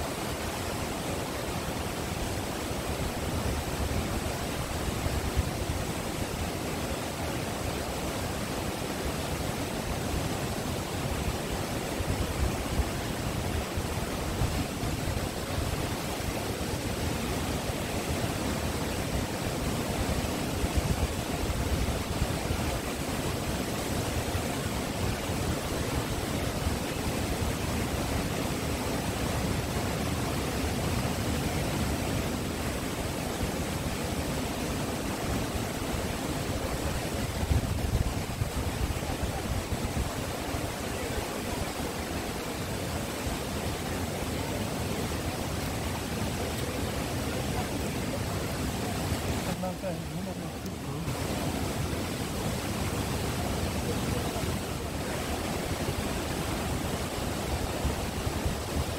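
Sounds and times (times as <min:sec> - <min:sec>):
waterfall rushing into pool: 0:00.0 - 0:58.9.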